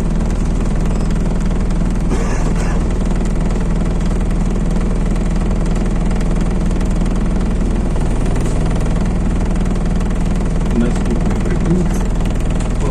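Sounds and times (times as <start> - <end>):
bus diesel engine running: 0.0 - 12.9.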